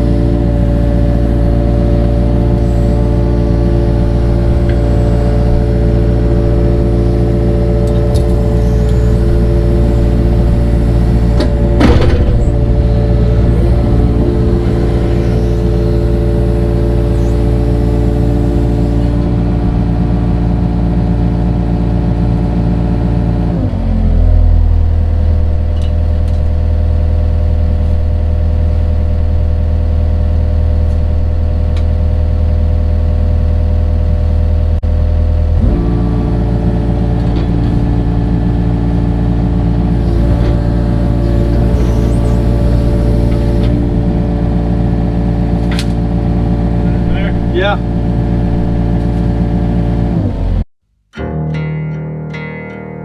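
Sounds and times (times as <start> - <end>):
digging machine engine running: 0.0 - 50.6.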